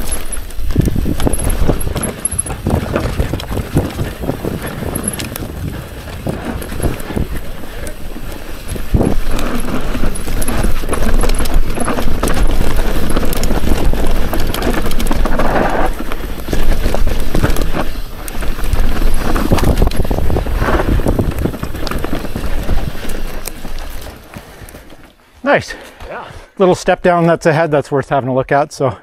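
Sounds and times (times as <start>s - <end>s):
bike chain and frame clattering: 0.0s - 25.1s
bike tyres on dirt: 0.0s - 26.6s.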